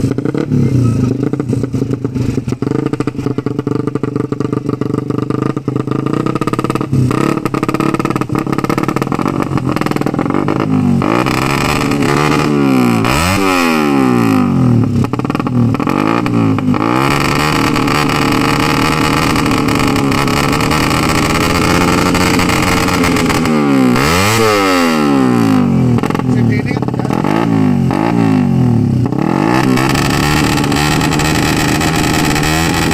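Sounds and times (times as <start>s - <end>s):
race engine revving: 0.0s - 32.9s.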